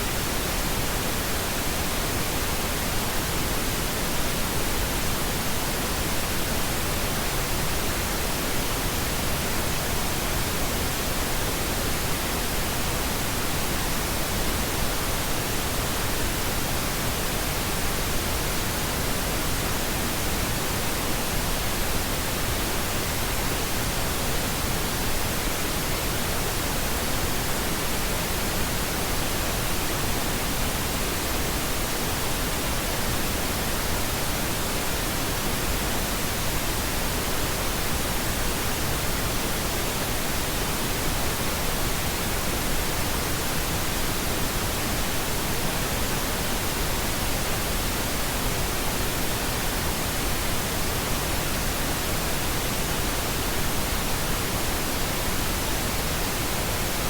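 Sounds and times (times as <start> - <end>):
steady pink noise hiss: 0.0 - 57.0.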